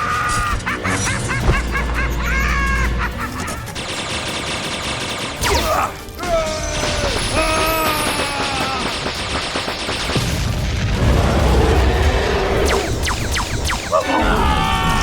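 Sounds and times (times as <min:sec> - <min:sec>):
cartoon battle crashing and rattling: 0:00.0 - 0:15.0
music: 0:00.0 - 0:15.0.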